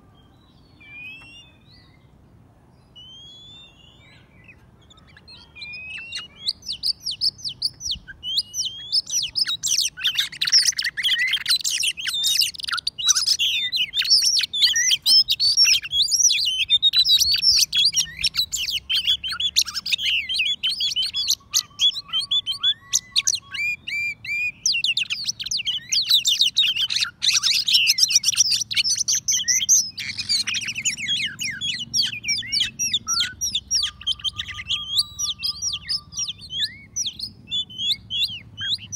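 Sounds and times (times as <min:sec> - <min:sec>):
songbird whistles and trills: 0:00.0 - 0:38.9.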